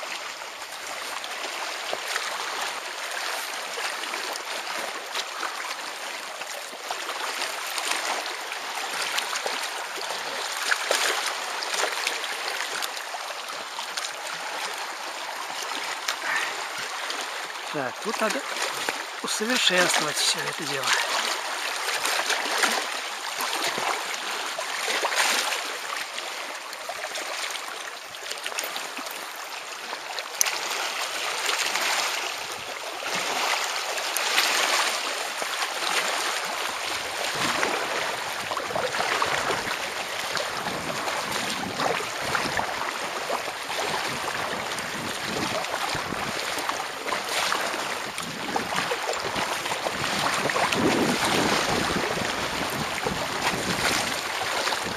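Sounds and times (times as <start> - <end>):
small waves lapping: 0.0 - 54.9.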